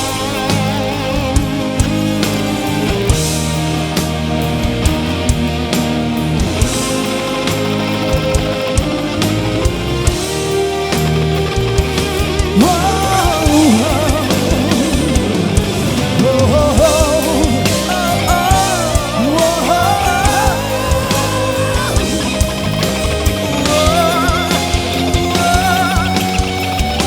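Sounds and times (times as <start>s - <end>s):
lead electric guitar: 0.0s - 27.0s
rock band playing: 0.0s - 27.0s.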